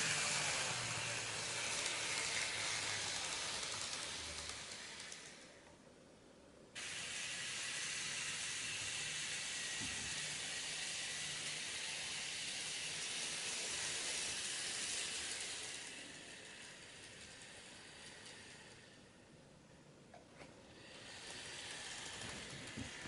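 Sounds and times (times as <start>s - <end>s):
model train hiss: 0.0s - 5.6s, 6.8s - 19.4s, 20.6s - 23.0s.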